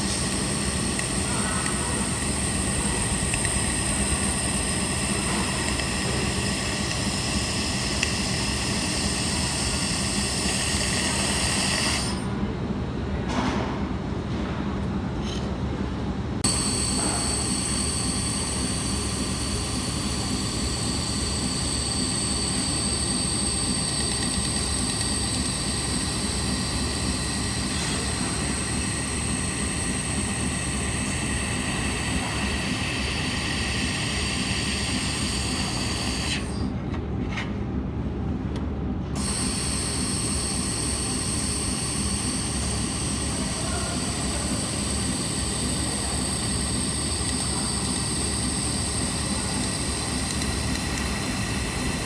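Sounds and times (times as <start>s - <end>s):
high-pitched whines: 0.0s - 12.3s, 16.4s - 36.7s, 39.2s - 52.0s
cooling fans whirring: 0.0s - 52.0s.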